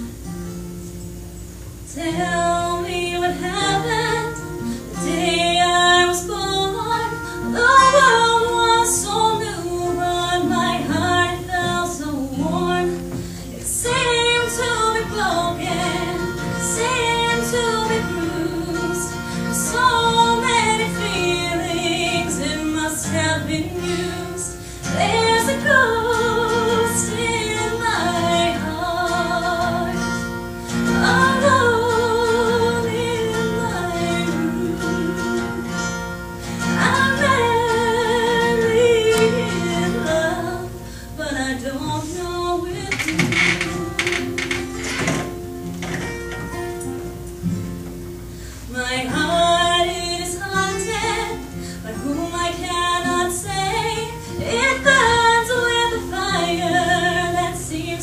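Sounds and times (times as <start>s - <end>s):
acoustic guitar: 0.0s - 58.0s
woman singing a slow ballad: 1.9s - 44.8s, 48.6s - 58.0s.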